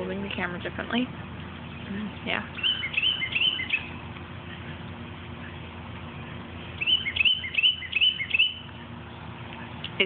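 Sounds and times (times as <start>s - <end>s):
small bird chirping: 1.4s - 9.8s.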